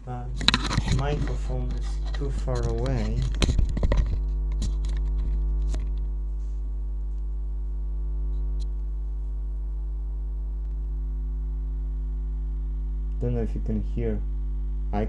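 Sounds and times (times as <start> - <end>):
power supply electrical hum: 0.0 - 15.0.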